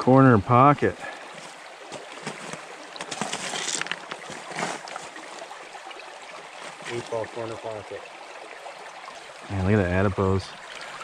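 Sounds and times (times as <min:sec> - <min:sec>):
stream water running and splashing: 0:00.0 - 0:11.0.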